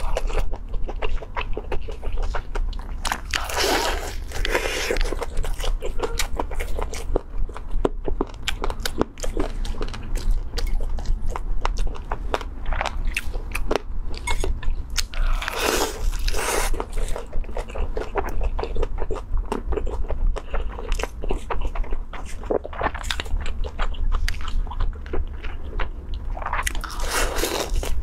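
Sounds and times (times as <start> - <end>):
crunching and chewing: 0.0 - 28.0.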